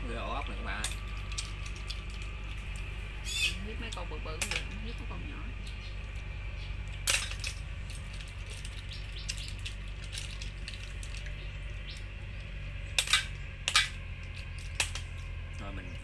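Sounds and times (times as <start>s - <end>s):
shells and picks clinking on metal bowl: 0.2s - 15.7s.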